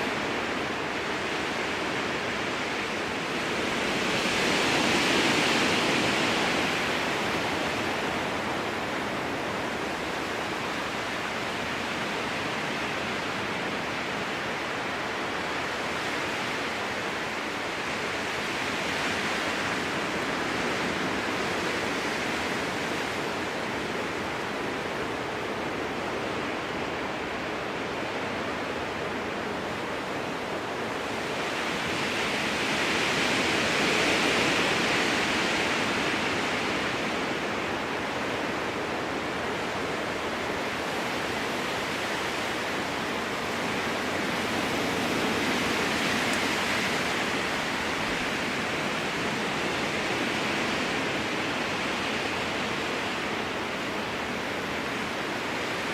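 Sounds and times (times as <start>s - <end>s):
strong wind through trees: 0.0s - 55.9s.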